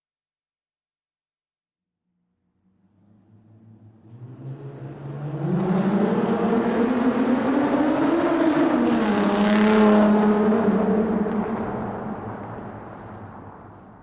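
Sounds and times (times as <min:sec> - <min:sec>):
car engine in a tunnel: 0:02.1 - 0:14.0.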